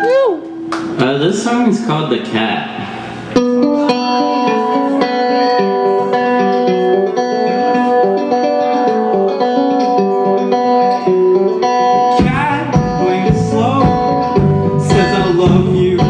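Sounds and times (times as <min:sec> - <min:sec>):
guitar playing notes and chords: 0:00.0 - 0:01.7, 0:02.6 - 0:16.0.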